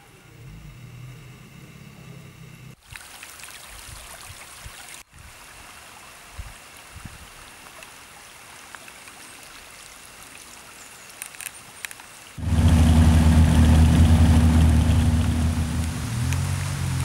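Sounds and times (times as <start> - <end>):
rainwater running across road: 2.8 - 17.0.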